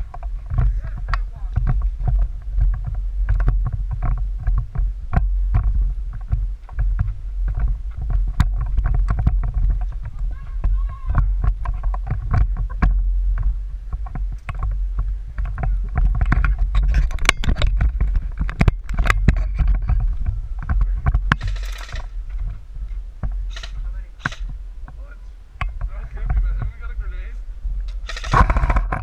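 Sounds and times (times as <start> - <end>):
microphone handling noise: 0.0 - 29.0
wind rumble on microphone: 0.0 - 29.0.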